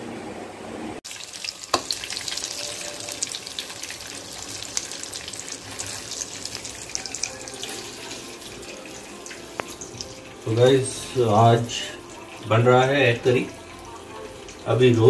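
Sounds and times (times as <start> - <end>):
eggs sizzling in oil: 1.0 - 15.0.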